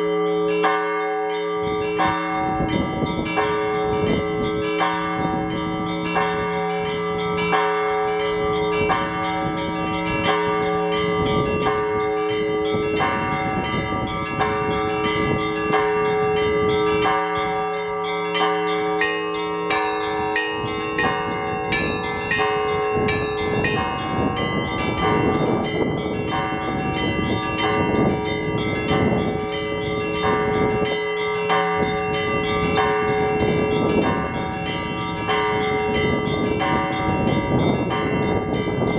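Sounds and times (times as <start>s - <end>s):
hum of large bells: 0.0s - 38.9s
small church bells chiming: 0.0s - 38.9s.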